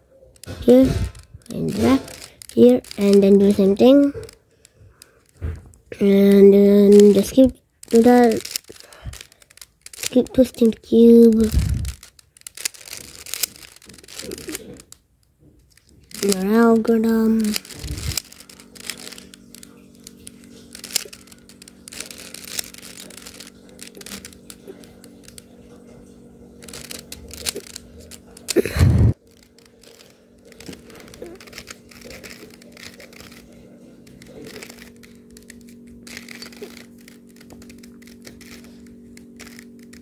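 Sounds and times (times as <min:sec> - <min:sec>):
steady low hum: 0:00.0 - 0:40.0
puzzle cube twisting clicks: 0:00.3 - 0:25.8, 0:26.6 - 0:40.0.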